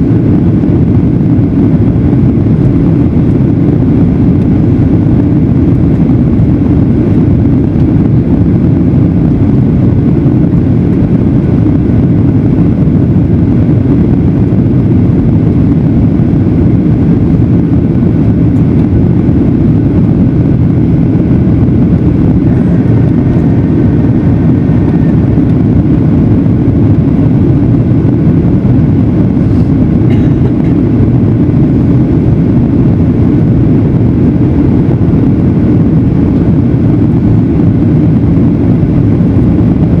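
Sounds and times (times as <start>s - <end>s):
airplane engines rumbling in flight: 0.0s - 40.0s.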